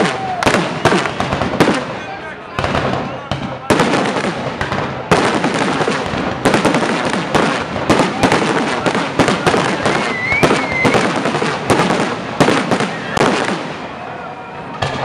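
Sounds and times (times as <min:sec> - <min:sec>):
crackle of burning fireworks: 0:00.0 - 0:15.0
fireworks bursting with sharp bangs: 0:00.0 - 0:15.0.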